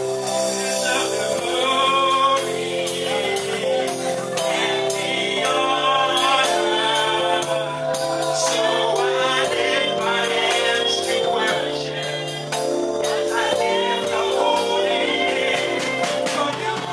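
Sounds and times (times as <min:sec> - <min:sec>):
gospel music with singing: 0:00.0 - 0:16.9.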